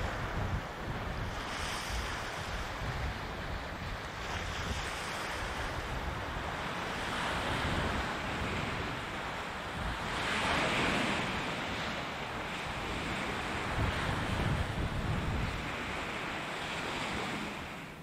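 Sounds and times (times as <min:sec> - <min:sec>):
waves washing onto shore: 0:00.0 - 0:18.0
wind rumbling on microphone: 0:00.0 - 0:18.0.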